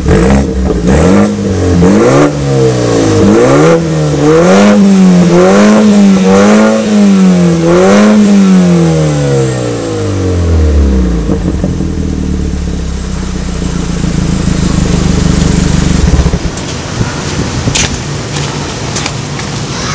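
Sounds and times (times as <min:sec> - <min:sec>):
car engine revving and idling: 0:00.0 - 0:19.9.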